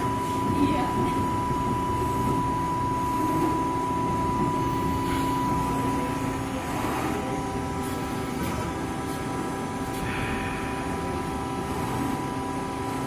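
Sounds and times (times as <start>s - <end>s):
high machine whine: 0.0s - 13.0s.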